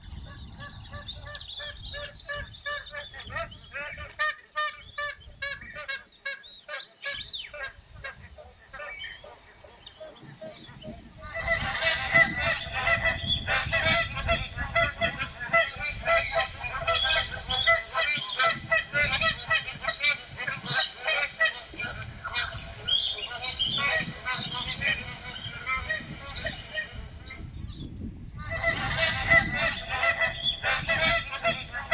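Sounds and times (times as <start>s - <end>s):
geese honking: 0.6s - 27.8s, 28.4s - 31.9s.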